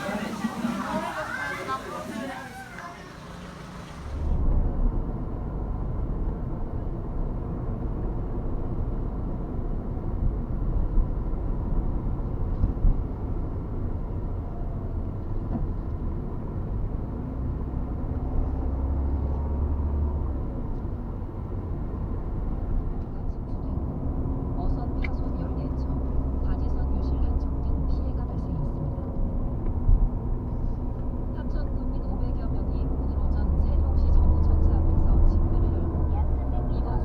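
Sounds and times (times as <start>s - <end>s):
faint engine hum: 0.0s - 37.0s
moving vehicle rumble: 0.0s - 37.0s.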